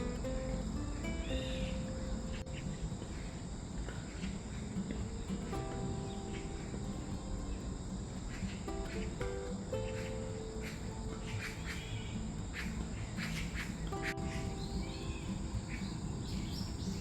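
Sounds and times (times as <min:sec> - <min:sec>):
crickets trilling: 0:00.0 - 0:17.0
low city rumble: 0:00.0 - 0:17.0.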